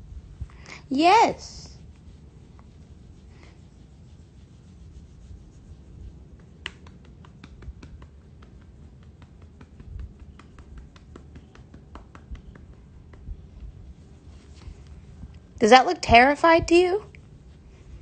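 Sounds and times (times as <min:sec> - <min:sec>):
small irregular clicks and rubs: 0:01.4 - 0:18.0.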